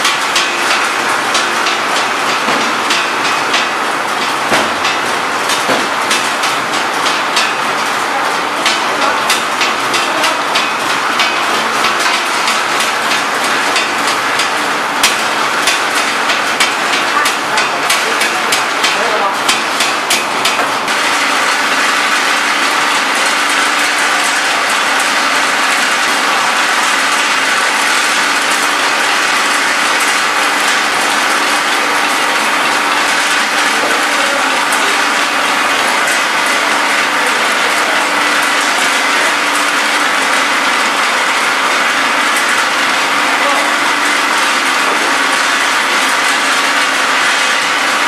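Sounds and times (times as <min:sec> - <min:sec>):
faint machine hum: 0:00.0 - 0:48.0.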